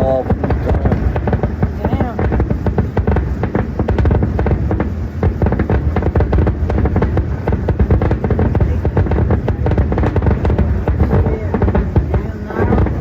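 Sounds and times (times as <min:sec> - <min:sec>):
continuous low rumble: 0:00.0 - 0:13.0
fireworks bangs and crackles: 0:00.0 - 0:13.0.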